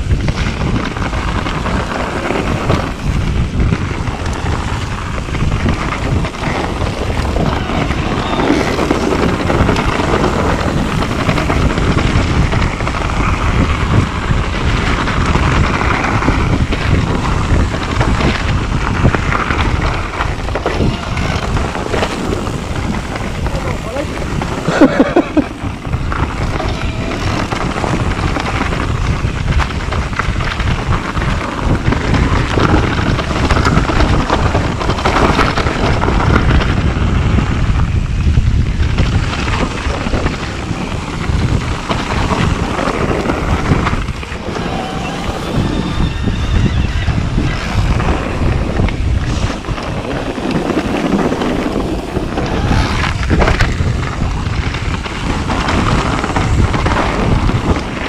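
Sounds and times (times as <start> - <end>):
bike rattling: 0.0 - 58.0
tyre rumble: 0.0 - 58.0
wind buffeting microphone: 0.0 - 58.0.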